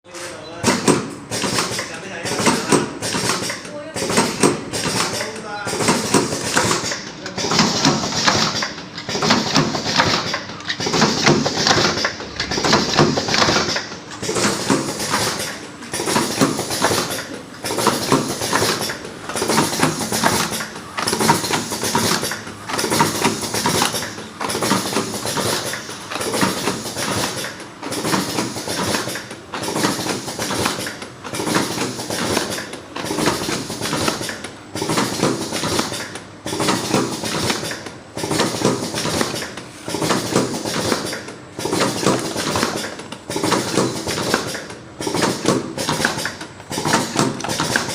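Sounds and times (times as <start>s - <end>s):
cartoning machine clattering: 0.1s - 47.9s.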